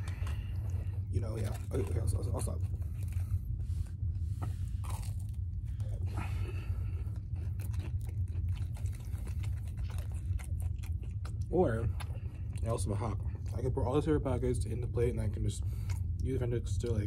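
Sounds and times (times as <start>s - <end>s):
chewing with soft crunching: 0.0s - 17.0s
steady low hum: 0.0s - 17.0s.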